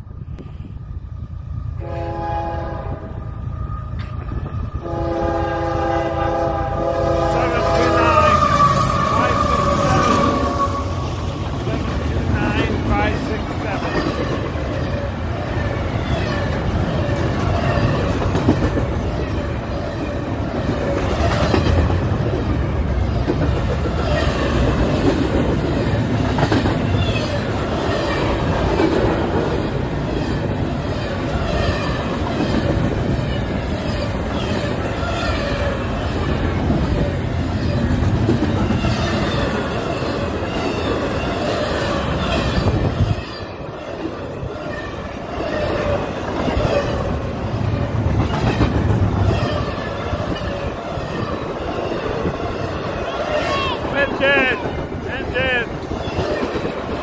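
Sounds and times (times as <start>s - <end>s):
freight train wheels clattering: 6.4s - 57.0s.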